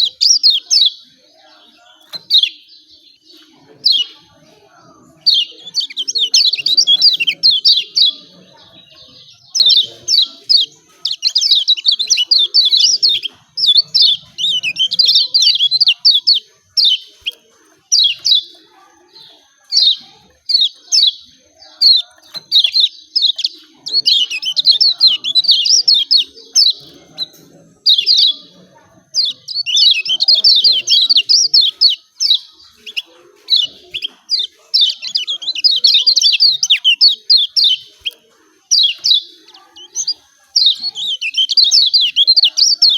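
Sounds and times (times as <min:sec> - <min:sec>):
bird chip calls: 0:00.0 - 0:01.2, 0:05.2 - 0:42.9.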